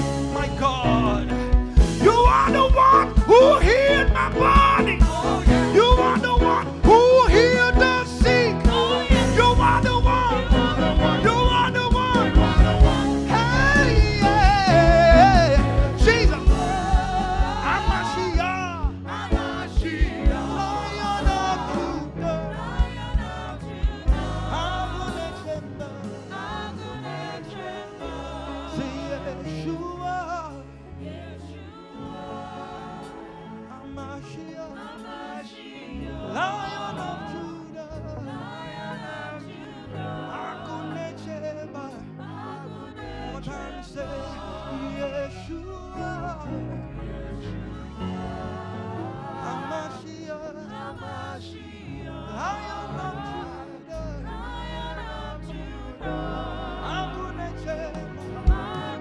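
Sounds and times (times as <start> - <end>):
choir singing with band: 0.0 - 59.0.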